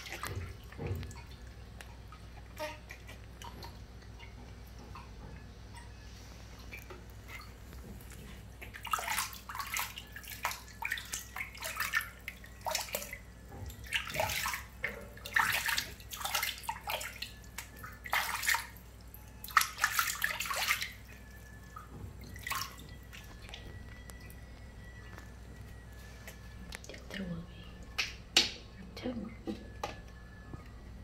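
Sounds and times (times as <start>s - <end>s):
water splashing and trickling: 0.0s - 30.1s.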